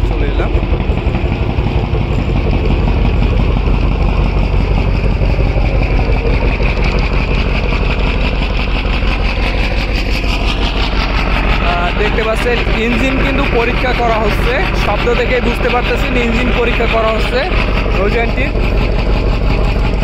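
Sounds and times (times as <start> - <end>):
marine diesel engine running: 0.0 - 20.0.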